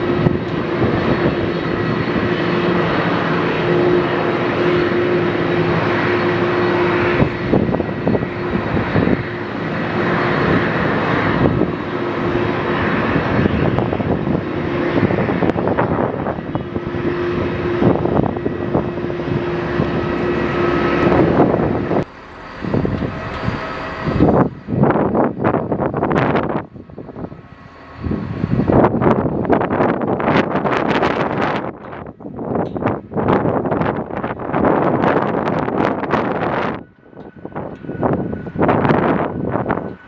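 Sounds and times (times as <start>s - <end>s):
airliner engines whining: 0.0s - 40.0s.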